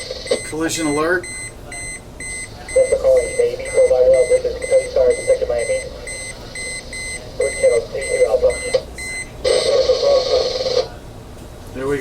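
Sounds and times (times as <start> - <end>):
alarm beeping rapidly: 0.0 - 10.8.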